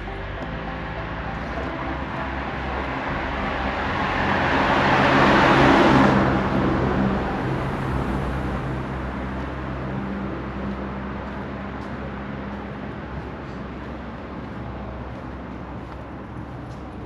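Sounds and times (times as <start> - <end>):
car passing by: 0.0 - 13.8.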